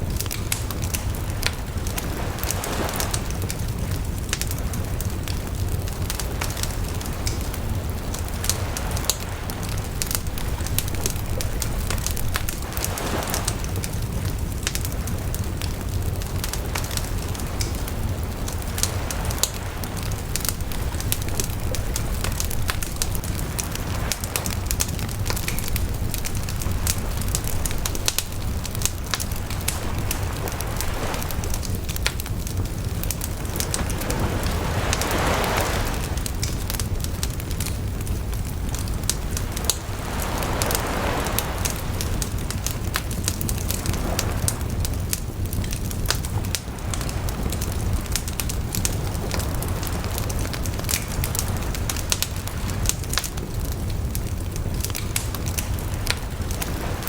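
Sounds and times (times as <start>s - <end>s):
low rumble of flame: 0.0s - 57.0s
rushing flame: 0.0s - 57.0s
wood crackling and popping: 0.0s - 57.0s.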